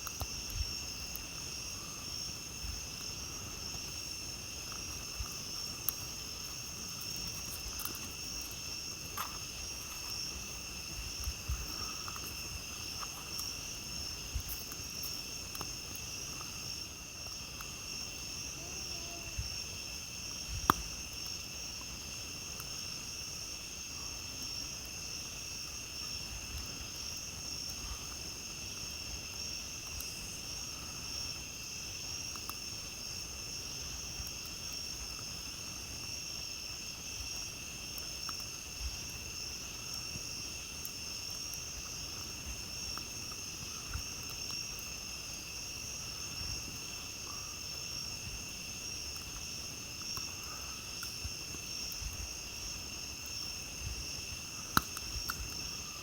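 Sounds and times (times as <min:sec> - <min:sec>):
campfire crackling: 0:00.0 - 0:56.0
crickets trilling: 0:00.0 - 0:56.0.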